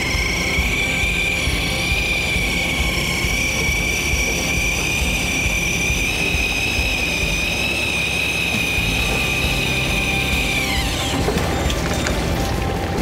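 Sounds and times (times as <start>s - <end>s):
electric fishing reel whining: 0.0s - 13.0s.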